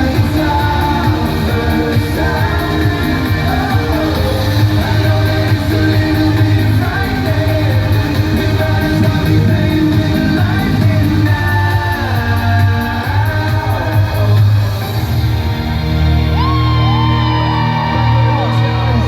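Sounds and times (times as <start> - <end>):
electric guitar: 0.0 - 19.0
heavy bass line: 0.0 - 19.0
live pop band playing: 0.0 - 19.0.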